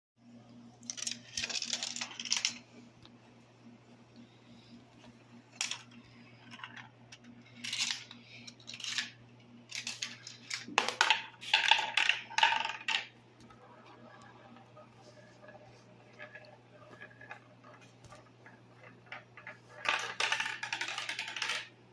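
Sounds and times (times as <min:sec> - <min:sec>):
faint low hum: 0:00.2 - 0:21.9
marbles rolling and clacking: 0:00.8 - 0:02.6, 0:05.5 - 0:21.8.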